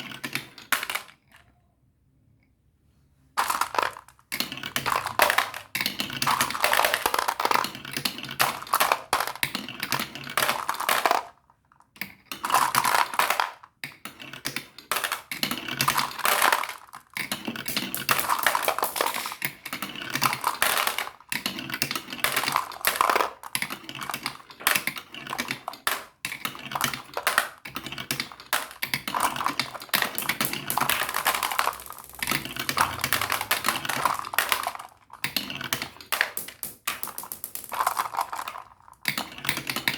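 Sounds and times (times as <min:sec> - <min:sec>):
marbles rattling down a marble run: 0:00.0 - 0:01.5, 0:03.4 - 0:39.9.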